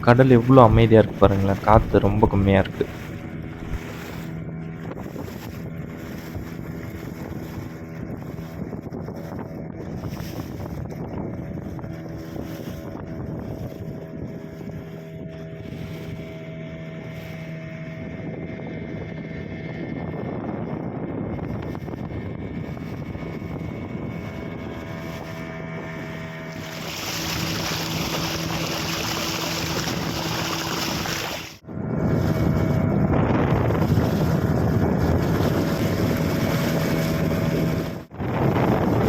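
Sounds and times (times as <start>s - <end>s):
boat engine running: 0.0s - 17.2s, 22.6s - 38.9s
water rushing along hull: 0.0s - 17.8s, 21.5s - 39.0s.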